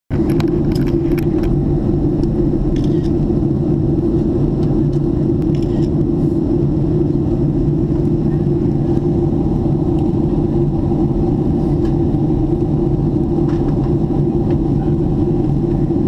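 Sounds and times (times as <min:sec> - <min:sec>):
jet cabin engine drone: 0:00.1 - 0:16.0.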